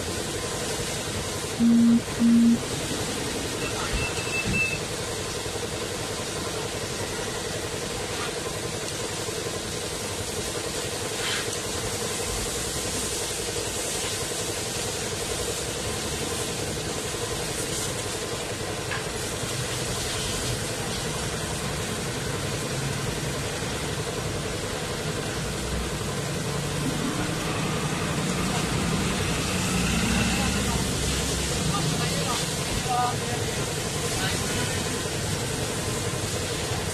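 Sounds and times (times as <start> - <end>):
constant machine hum: 0.0 - 36.9
hose spraying water: 0.0 - 36.9
low engine rumble: 4.8 - 36.9.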